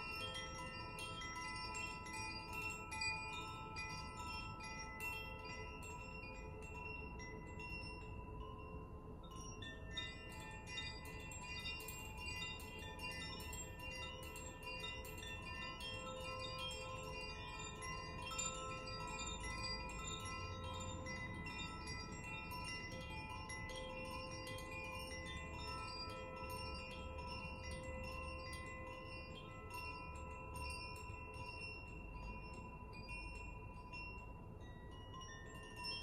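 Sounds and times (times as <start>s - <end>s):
chimes ringing and tinkling: 0.0s - 36.0s.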